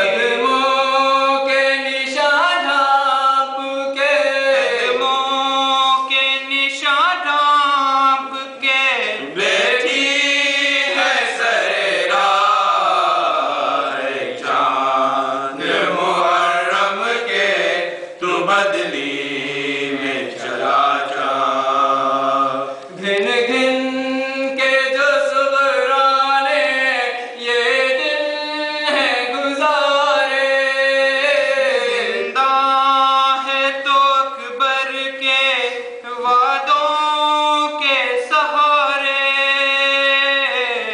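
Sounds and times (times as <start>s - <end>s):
men chanting a lament: 0.0s - 40.9s.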